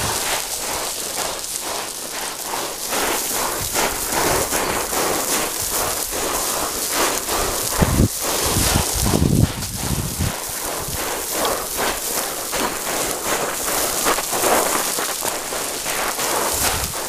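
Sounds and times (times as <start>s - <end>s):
footsteps on loose dirt: 0.0s - 17.0s
steady hiss: 0.0s - 17.0s.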